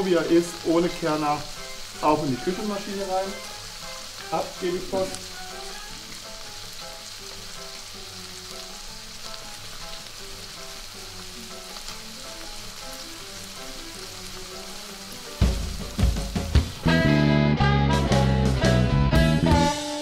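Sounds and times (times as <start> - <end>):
chicken sizzling in a pan: 0.0 - 17.0
soft background music: 0.0 - 20.0.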